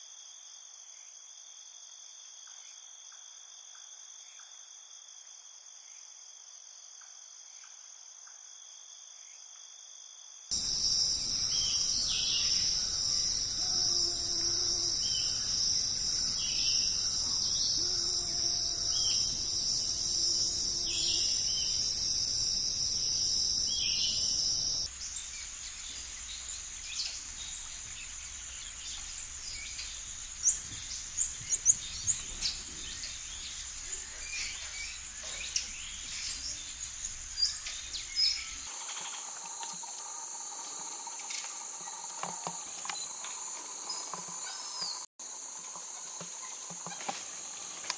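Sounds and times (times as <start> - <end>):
insect chorus drone: 0.0 - 47.9.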